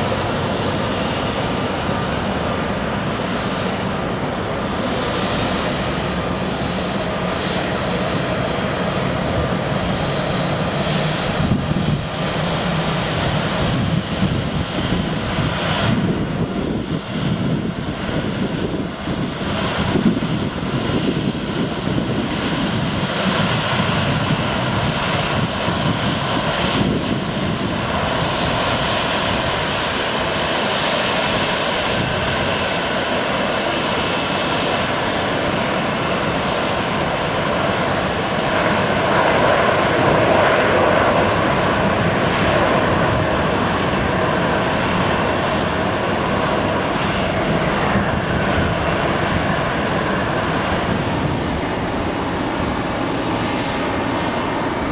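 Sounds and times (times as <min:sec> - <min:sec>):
airliner engines running: 0:00.0 - 0:54.9.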